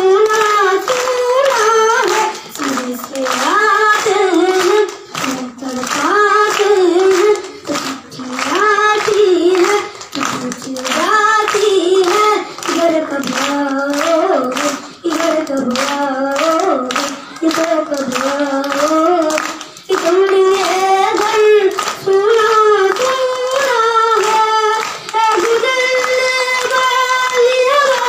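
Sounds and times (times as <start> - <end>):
boy singing into microphone: 0.0 - 28.0
hand claps: 0.0 - 28.0.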